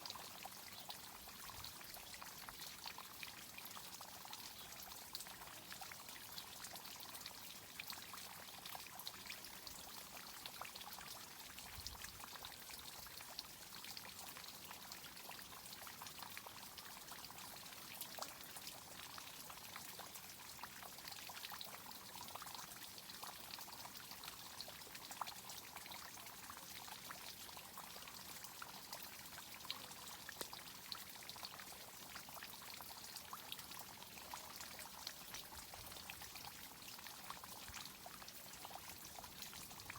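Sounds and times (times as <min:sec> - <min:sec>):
water pouring and trickling: 0:00.0 - 0:39.9.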